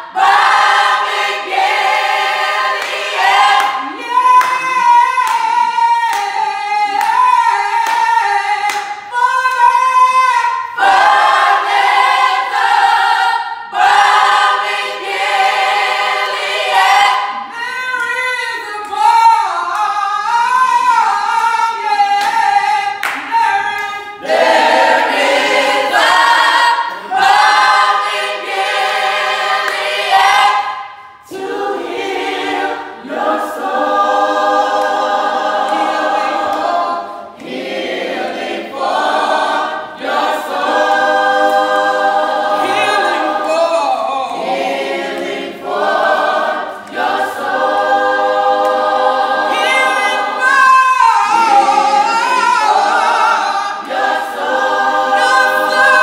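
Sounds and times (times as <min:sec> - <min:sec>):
group singing gospel a cappella: 0:00.0 - 0:56.0.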